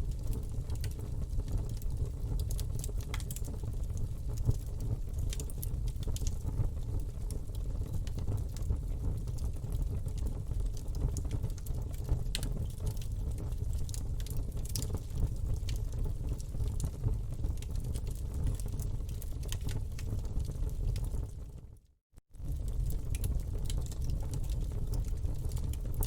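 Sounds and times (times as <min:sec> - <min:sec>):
flames rumbling: 0:00.0 - 0:21.6, 0:22.3 - 0:26.0
wood crackling and popping: 0:00.1 - 0:21.6, 0:22.4 - 0:26.0.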